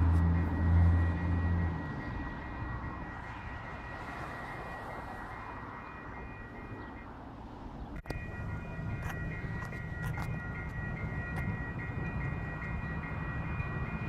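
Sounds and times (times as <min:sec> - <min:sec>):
crossing signal bell ringing: 0:00.0 - 0:07.4, 0:08.0 - 0:14.0
road traffic noise: 0:00.0 - 0:14.0.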